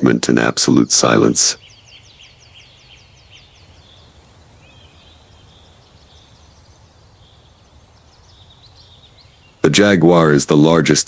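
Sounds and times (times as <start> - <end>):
faint bird calls: 0.0 - 10.9.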